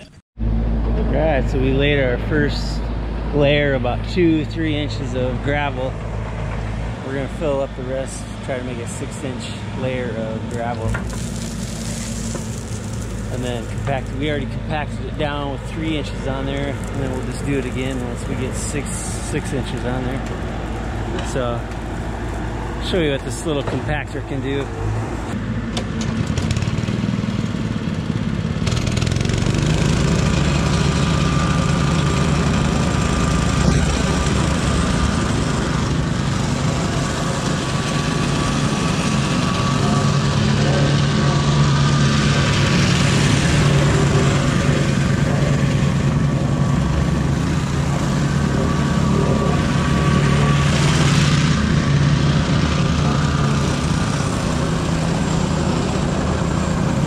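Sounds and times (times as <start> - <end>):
plate compactor running: 8.6 - 23.9, 24.6 - 57.0.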